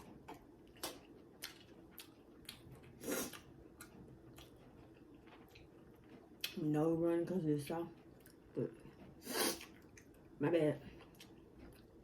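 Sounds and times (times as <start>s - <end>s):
person chewing food: 0.0s - 6.7s, 7.9s - 12.0s.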